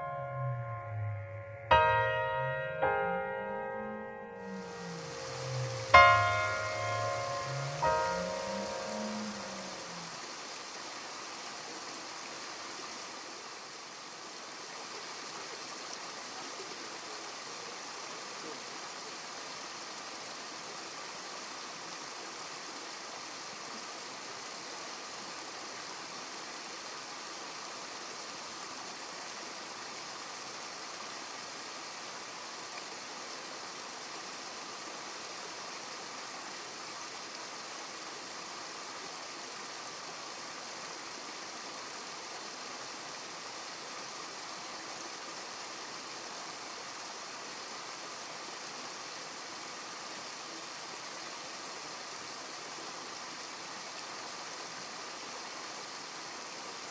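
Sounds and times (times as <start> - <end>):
stream water rushing over weir: 0.0 - 56.9.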